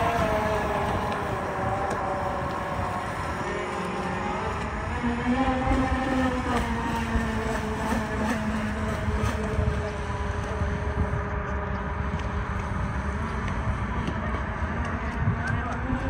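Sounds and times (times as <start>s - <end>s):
electric motor whine: 0.0s - 16.0s
low rumbling noise: 0.0s - 16.0s.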